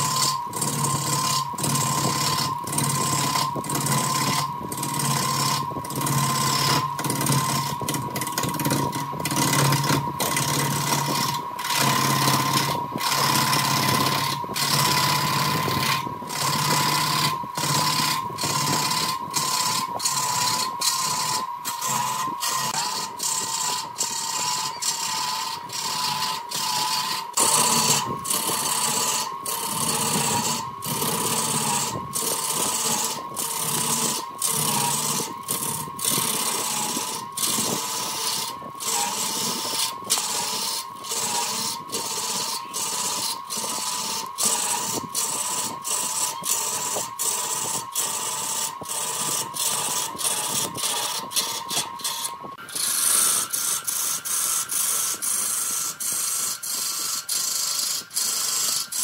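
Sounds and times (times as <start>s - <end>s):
turning tool cutting wood: 0.0s - 59.0s
wood lathe motor whine: 0.0s - 59.0s.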